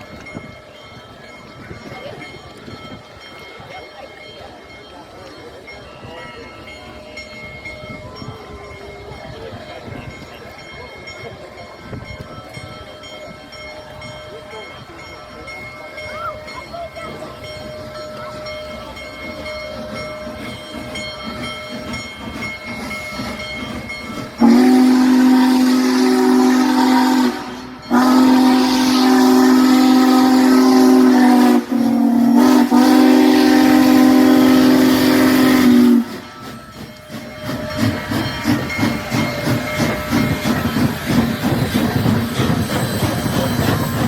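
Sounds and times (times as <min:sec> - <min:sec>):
steam locomotive chime whistle: 0:00.0 - 0:44.0
train rumbling past: 0:00.0 - 0:44.0.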